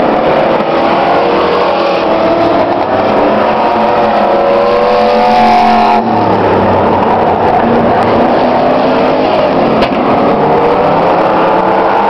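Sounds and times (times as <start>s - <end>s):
racing truck engines revving: 0.0s - 12.0s.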